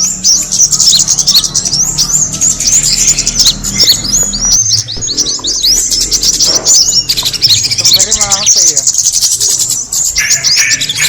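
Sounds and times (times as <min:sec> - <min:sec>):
small birds chirping rapidly: 0:00.0 - 0:11.0.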